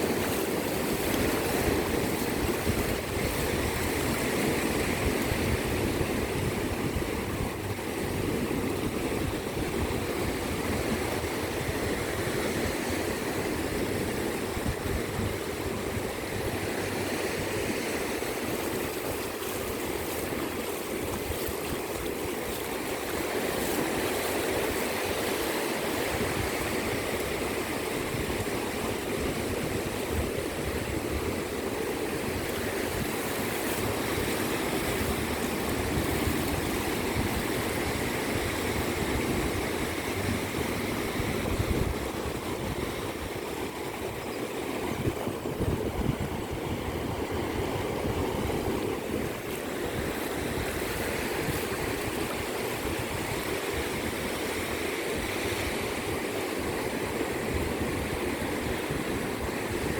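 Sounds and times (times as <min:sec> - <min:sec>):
ocean waves washing on beach: 0:00.0 - 0:59.9.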